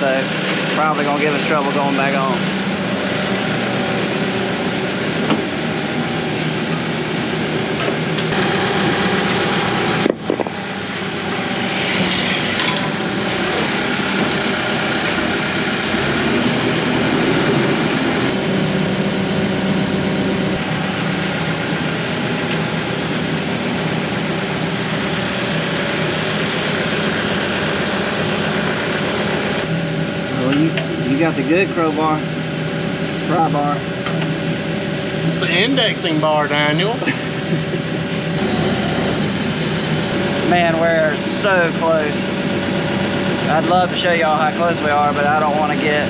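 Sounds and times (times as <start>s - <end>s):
loader engine running: 0.0s - 46.0s.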